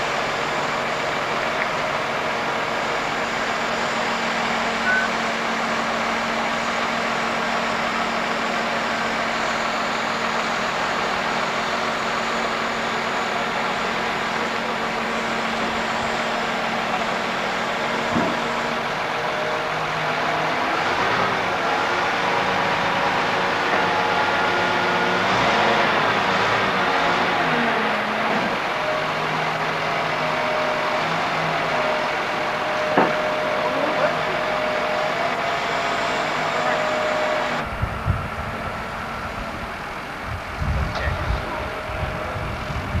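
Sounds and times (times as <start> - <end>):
heavy vehicle engine running: 0.0 - 43.0.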